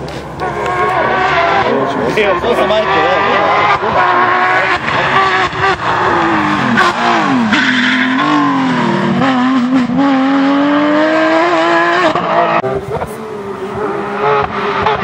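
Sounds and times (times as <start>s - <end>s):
car engine revving at full effort: 0.0s - 15.0s.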